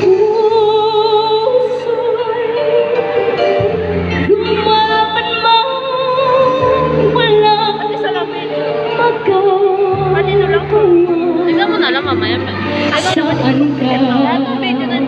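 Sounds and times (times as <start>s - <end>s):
instrumental accompaniment: 0.0s - 15.0s
woman singing through pa: 0.0s - 15.0s.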